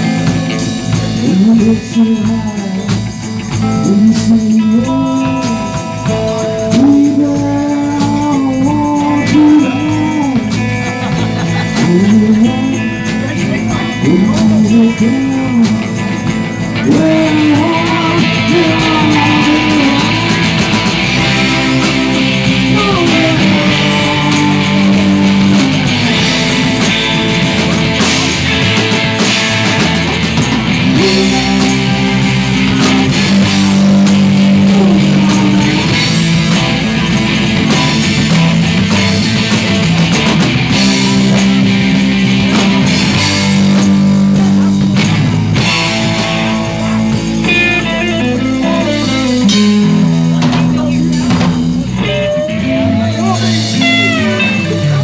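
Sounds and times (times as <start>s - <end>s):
lead guitar bending: 0.0s - 55.0s
live rock band: 0.0s - 55.0s.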